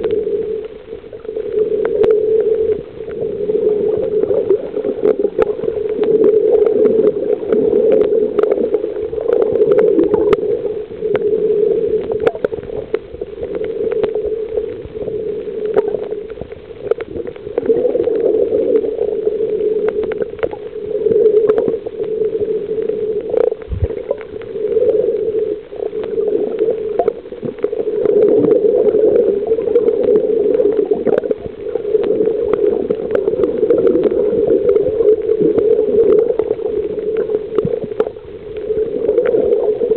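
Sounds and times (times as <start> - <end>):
muffled underwater rushing water: 0.0 - 39.9
small underwater clicks and crackles: 0.0 - 39.9.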